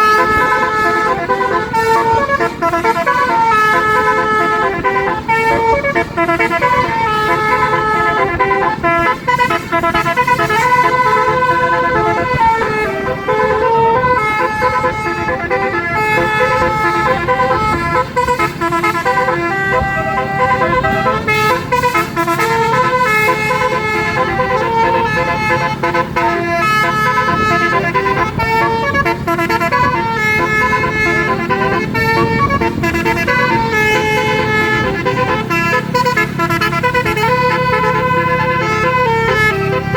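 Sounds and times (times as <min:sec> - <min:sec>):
bus engine rumble: 0:00.0 - 0:39.9
musical air horn melody: 0:00.0 - 0:39.9.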